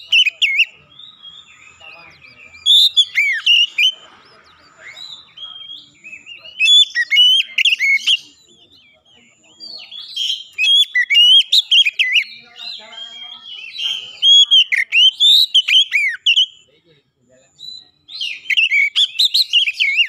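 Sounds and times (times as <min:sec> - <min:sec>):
bird singing whistled phrases: 0:00.0 - 0:16.7, 0:17.6 - 0:20.0.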